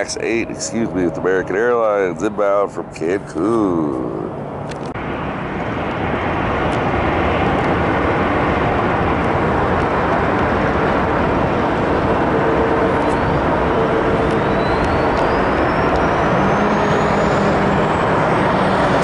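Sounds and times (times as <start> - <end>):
jet engine roar: 0.0 - 19.0
thin rising whine: 0.0 - 19.0.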